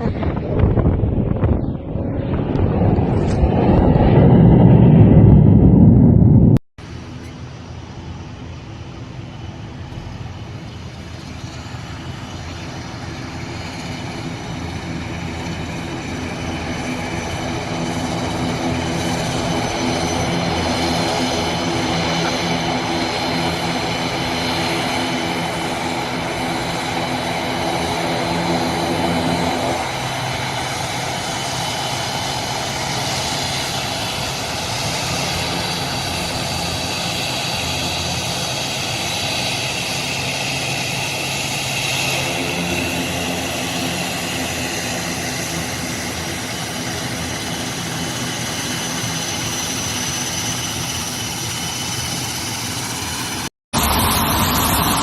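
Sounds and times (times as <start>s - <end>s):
airplane engines running: 0.0s - 55.0s.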